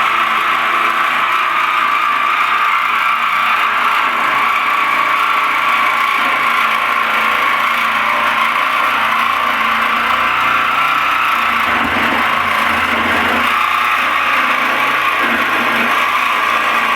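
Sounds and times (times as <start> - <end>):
jigsaw cutting through steel: 0.0 - 16.9.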